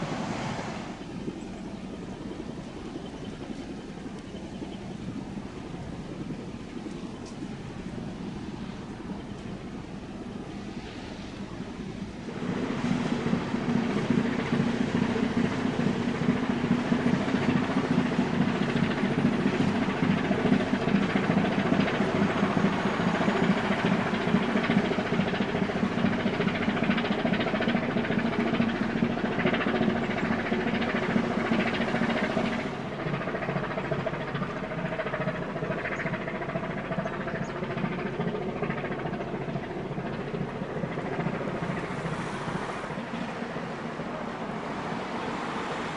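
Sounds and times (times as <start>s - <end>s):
diesel engine droning: 0.0s - 45.9s.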